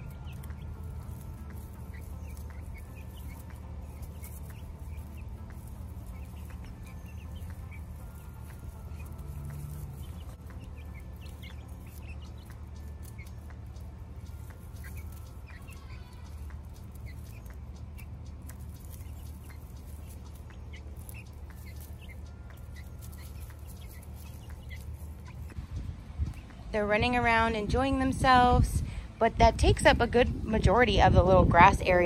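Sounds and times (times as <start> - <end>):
chicks peeping and chirping: 0.0 - 32.0
low steady background rumble: 0.0 - 32.0.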